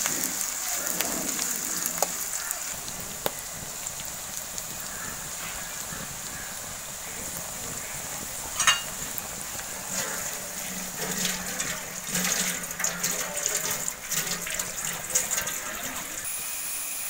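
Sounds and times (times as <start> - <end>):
shallots sizzling in hot oil: 0.0 - 17.0.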